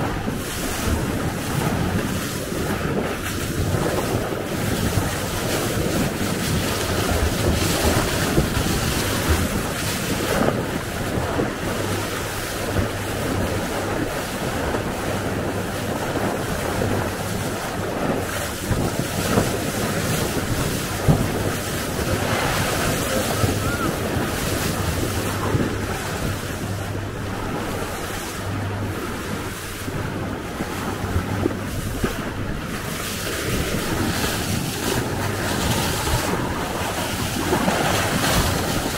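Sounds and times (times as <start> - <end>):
water splashing along boat hull: 0.0 - 38.9
wind buffeting microphone: 0.0 - 38.9.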